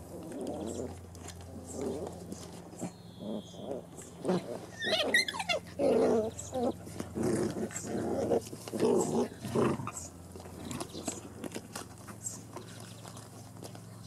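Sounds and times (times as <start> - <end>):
puppies growling: 0.0 - 13.8.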